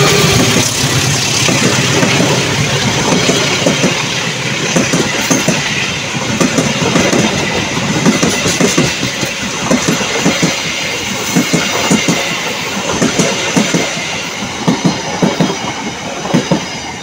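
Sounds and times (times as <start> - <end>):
steel wheels clattering on rails: 0.0 - 17.0
train passing at speed: 0.0 - 17.0.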